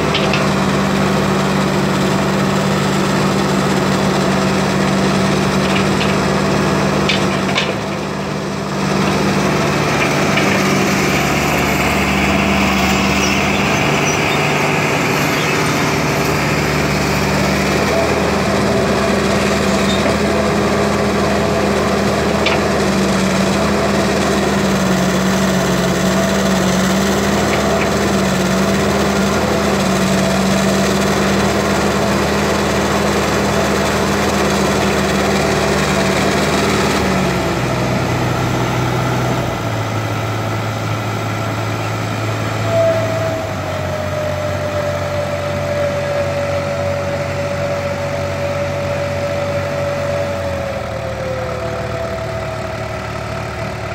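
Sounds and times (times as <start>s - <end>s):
diesel machinery engines running: 0.0s - 53.9s.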